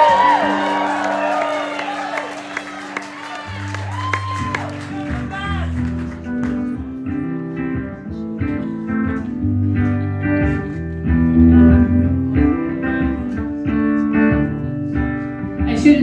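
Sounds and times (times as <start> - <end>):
guitar strumming and picking chords: 0.0 - 16.0.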